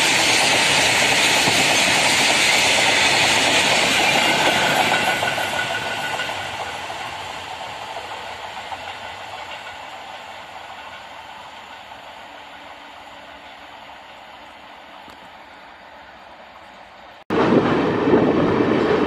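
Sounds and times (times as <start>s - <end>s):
freight train passing: 0.0s - 19.0s
train wheels rumbling on rails: 0.0s - 19.0s.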